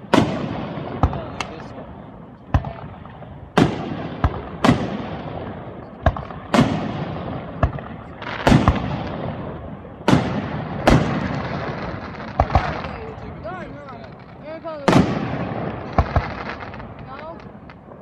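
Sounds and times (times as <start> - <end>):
fireworks bursting with echo: 0.0 - 18.0.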